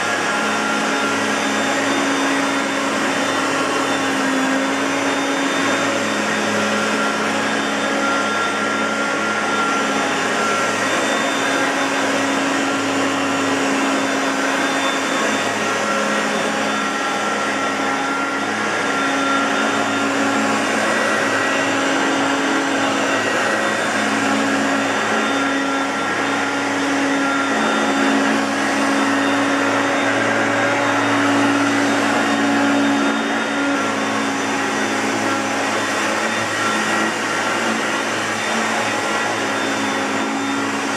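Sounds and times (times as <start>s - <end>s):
upright vacuum cleaner running: 0.0s - 40.9s.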